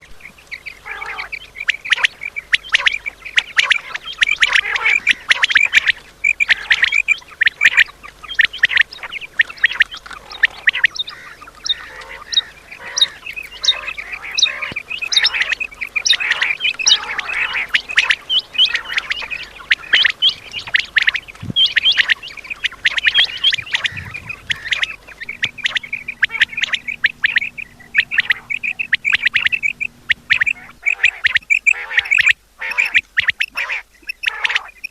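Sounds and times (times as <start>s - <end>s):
quail calling: 0.0s - 34.9s.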